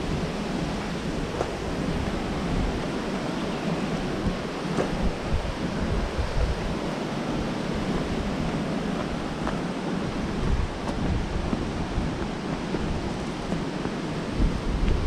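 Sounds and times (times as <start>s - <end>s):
rush of falling water: 0.0s - 15.0s
wind gusts on microphone: 0.0s - 15.0s.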